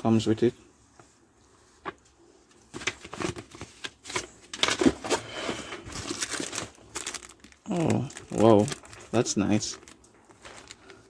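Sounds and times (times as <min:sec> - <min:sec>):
packaging rustling and crinkling: 0:01.8 - 0:11.0.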